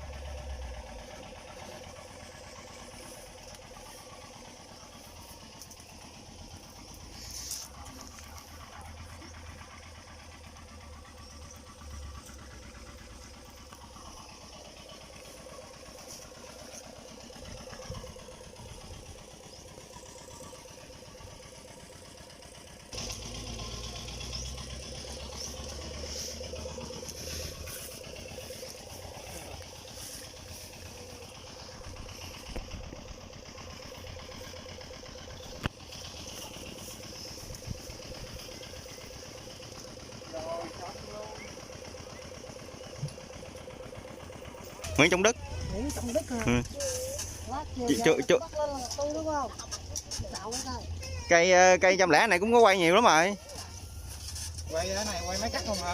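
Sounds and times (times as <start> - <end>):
combine harvester diesel engine: 0.0 - 55.9.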